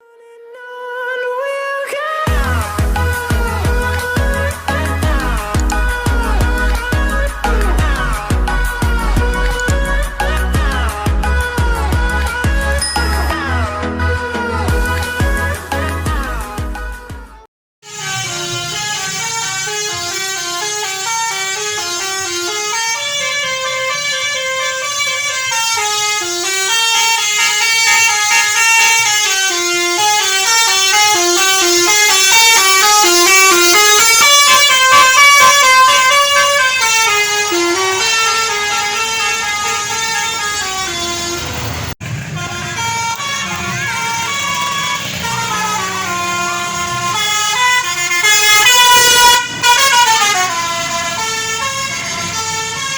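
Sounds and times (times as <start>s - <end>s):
bus musical air horns: 0.0s - 52.9s.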